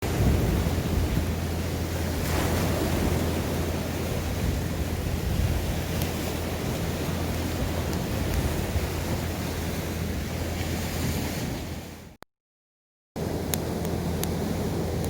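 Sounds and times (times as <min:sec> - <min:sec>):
sea waves washing onto shore: 0:00.0 - 0:12.2, 0:13.2 - 0:15.0
wind rumbling on microphone: 0:00.0 - 0:12.2, 0:13.2 - 0:15.0.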